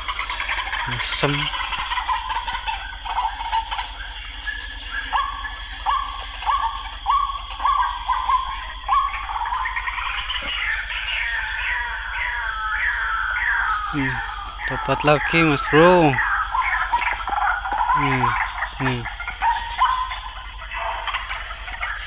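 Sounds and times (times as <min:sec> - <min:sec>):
high falling animal calls: 0:00.0 - 0:22.0.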